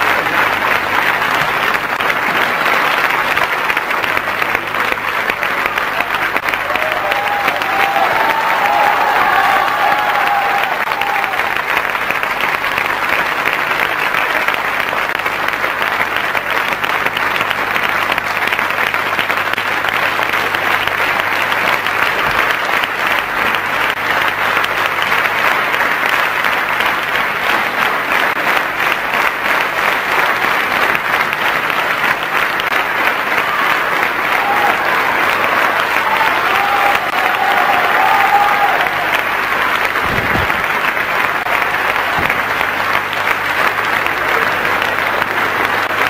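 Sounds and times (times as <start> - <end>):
crowd applauding: 0.0 - 46.0.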